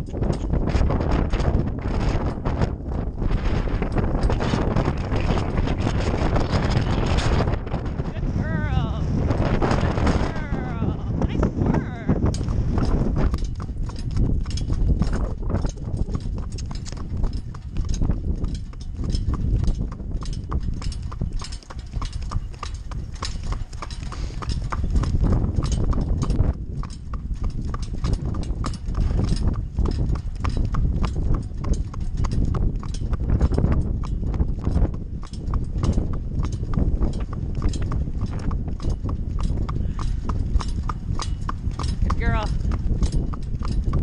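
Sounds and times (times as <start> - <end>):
hooves clip-clopping on asphalt: 0.0 - 44.0
wind rumbling on microphone: 0.0 - 44.0.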